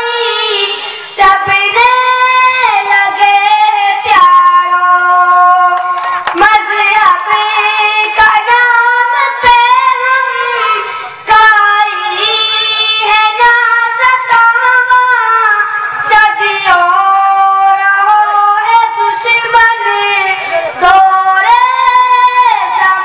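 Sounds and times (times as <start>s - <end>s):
boy singing into a microphone: 0.0s - 23.0s.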